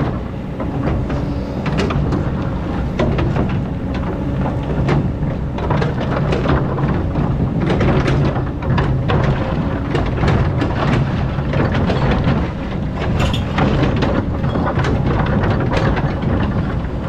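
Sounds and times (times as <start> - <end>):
bucket clanking and scraping in sand: 0.0 - 17.0
excavator diesel engine under load: 0.0 - 17.0.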